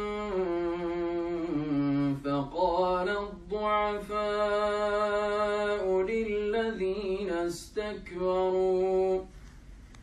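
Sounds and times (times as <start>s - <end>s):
man reciting melodically: 0.0s - 9.4s.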